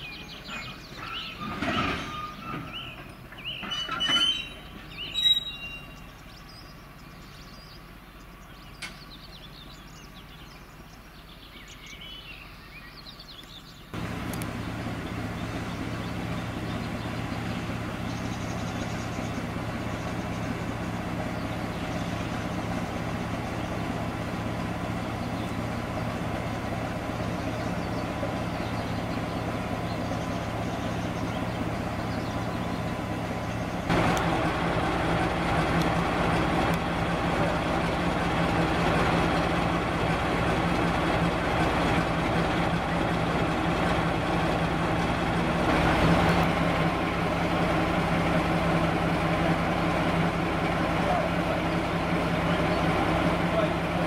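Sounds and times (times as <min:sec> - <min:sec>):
locomotive diesel engine: 0:00.0 - 0:54.0.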